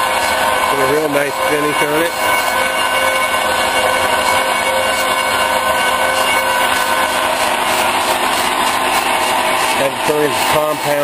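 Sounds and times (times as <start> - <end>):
cutting hiss: 0.0 - 11.0
metal lathe humming: 0.0 - 11.0.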